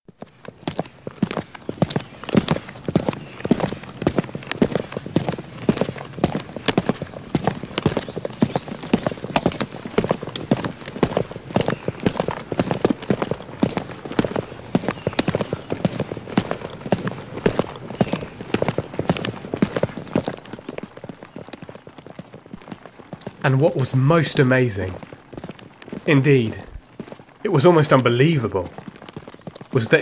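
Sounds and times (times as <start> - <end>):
horse hooves clip-clopping: 0.0 - 30.0.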